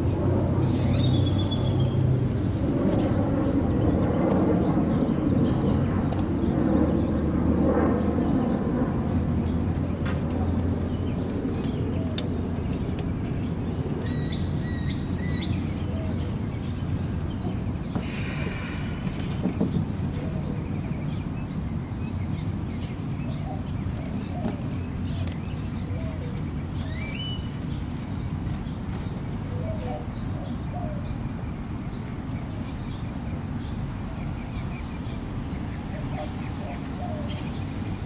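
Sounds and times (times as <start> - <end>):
low rumble of traffic: 0.0 - 38.0
small birds chirping: 0.0 - 38.0.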